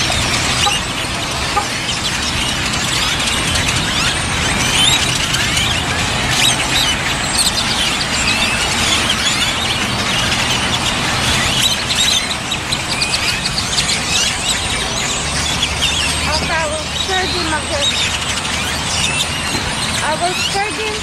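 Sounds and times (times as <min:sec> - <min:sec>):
flock of birds calling: 0:00.0 - 0:21.0.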